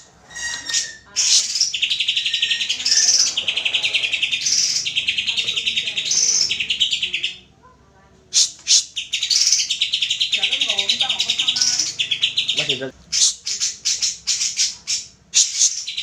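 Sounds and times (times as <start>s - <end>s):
bird singing rattling trills: 0.0s - 7.5s, 8.4s - 16.0s.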